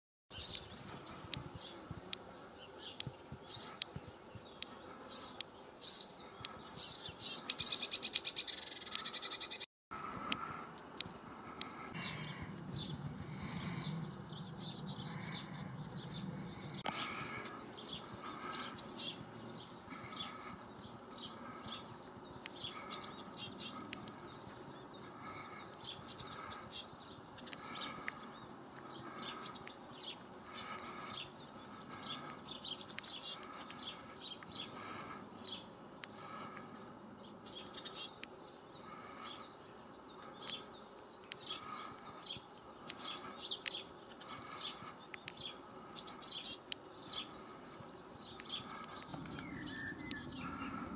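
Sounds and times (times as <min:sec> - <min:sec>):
birds chirping rapidly: 0:00.3 - 0:50.9.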